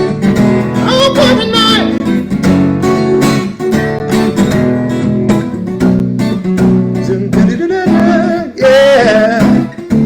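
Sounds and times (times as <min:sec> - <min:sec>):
guitar strumming chords: 0:00.0 - 0:10.0.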